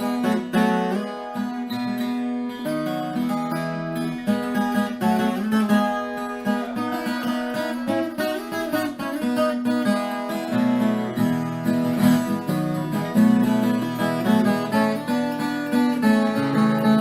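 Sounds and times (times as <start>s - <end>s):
steel-strung folk guitar picked: 0.0s - 17.0s.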